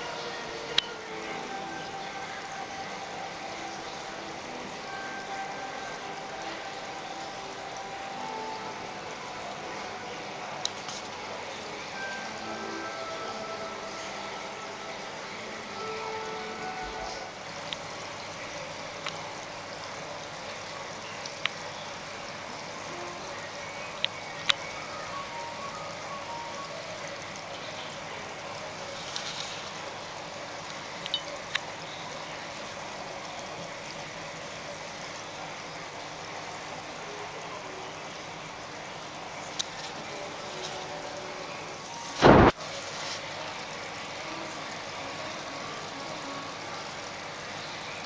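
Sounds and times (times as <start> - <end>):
aquarium air stone bubbling: 0.0 - 48.0.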